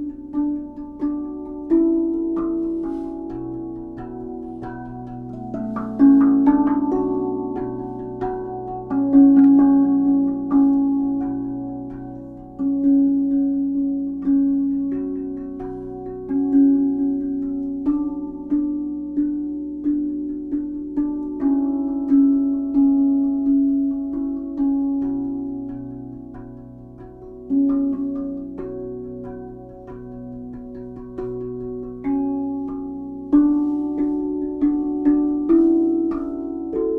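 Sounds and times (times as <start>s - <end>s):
steel tongue drum notes ringing: 0.0s - 36.9s.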